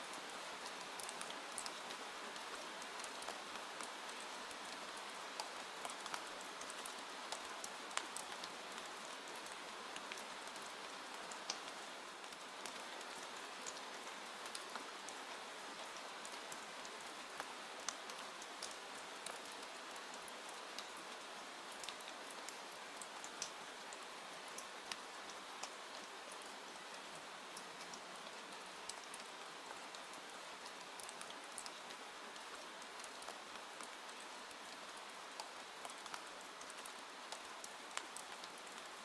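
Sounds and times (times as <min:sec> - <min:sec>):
rain pattering on a window: 0:00.0 - 0:39.0.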